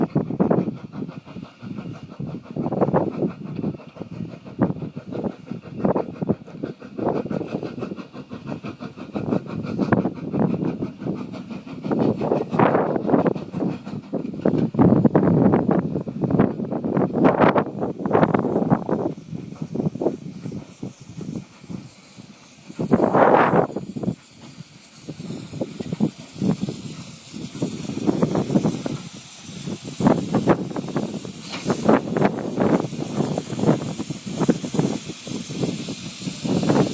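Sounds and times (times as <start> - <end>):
steam locomotive chuffing: 0.0 - 36.9
train clanking and knocking: 0.0 - 36.9.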